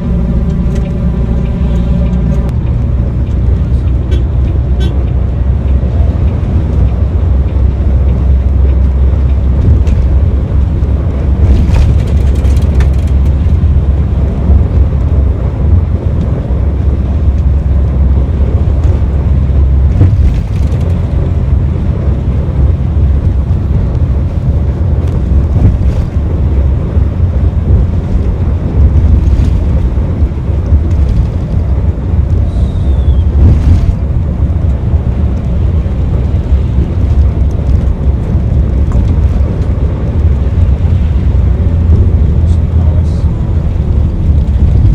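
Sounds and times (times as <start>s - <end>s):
bus engine and road rumble: 0.0s - 44.9s
wind buffeting microphone: 0.0s - 44.9s.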